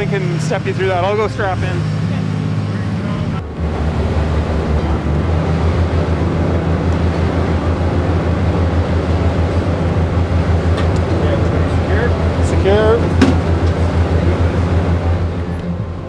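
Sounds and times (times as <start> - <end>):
boat engines droning: 0.0 - 16.0
rushing noise: 1.4 - 16.0.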